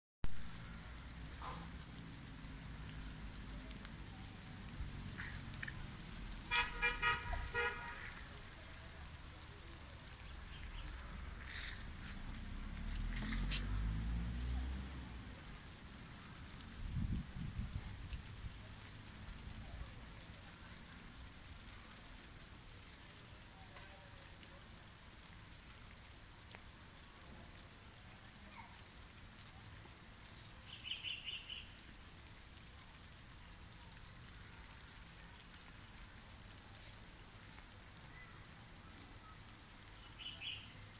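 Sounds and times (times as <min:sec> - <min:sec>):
rain falling on leaves and paving: 0:00.2 - 0:40.9.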